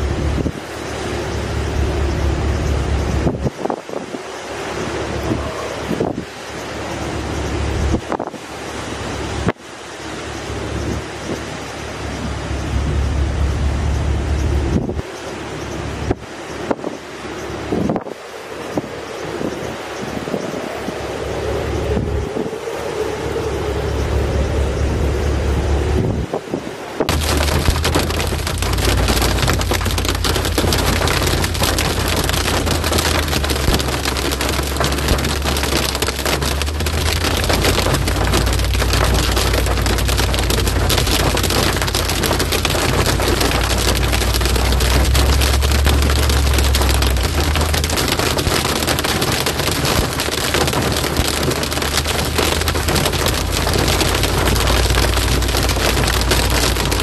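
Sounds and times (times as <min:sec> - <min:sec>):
heavy rain on vehicle roof: 0:00.0 - 0:57.0
steady low rumble: 0:00.0 - 0:57.0.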